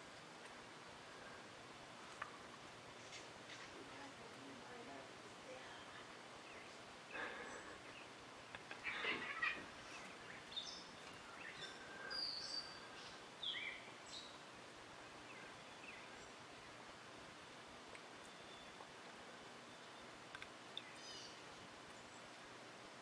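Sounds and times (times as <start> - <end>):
soft outdoor hiss: 0.0 - 23.0.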